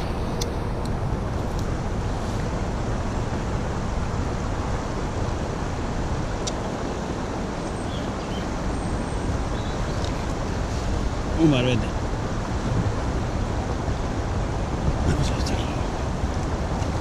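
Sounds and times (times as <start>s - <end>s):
river rushing over shallow bed: 0.0s - 17.0s
wind rumbling on microphone: 0.0s - 17.0s.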